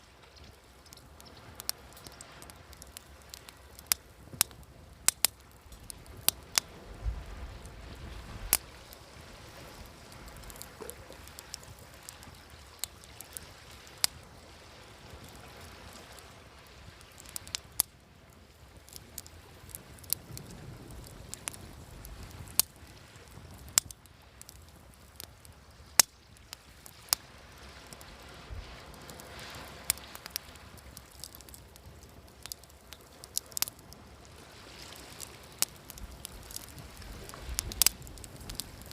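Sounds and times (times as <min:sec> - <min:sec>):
waves washing: 0:00.0 - 0:38.9
wood fire crackling: 0:00.0 - 0:38.9.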